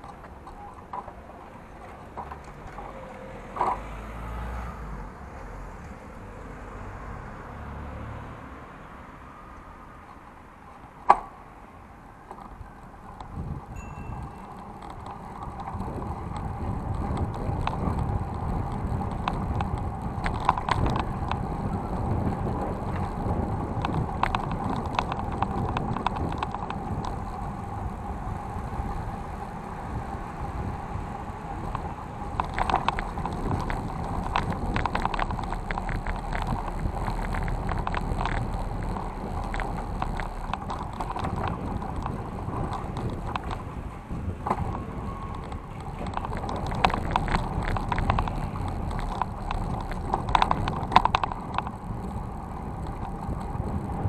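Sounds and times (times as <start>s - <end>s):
bicycle rattling over bumps: 0.0s - 4.0s, 12.1s - 54.0s
bicycle tyre rolling noise: 0.0s - 54.0s.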